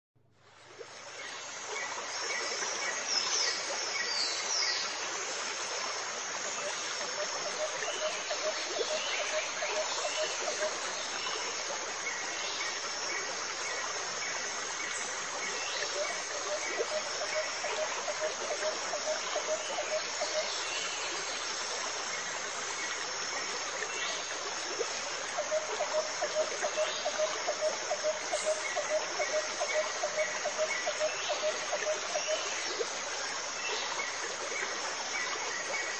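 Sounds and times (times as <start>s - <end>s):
running water: 0.3s - 35.9s.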